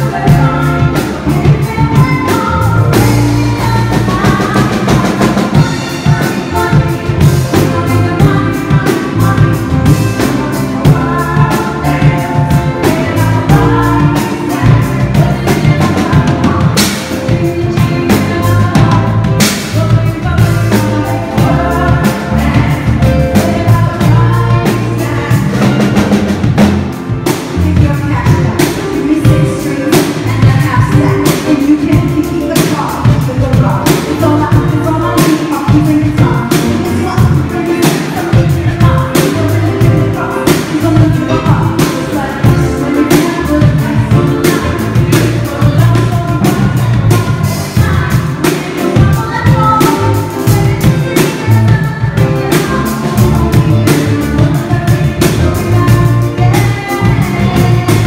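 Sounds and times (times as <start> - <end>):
drum kit: 0.0 - 58.0
electric bass: 0.0 - 58.0
woman singing lead: 0.0 - 58.0.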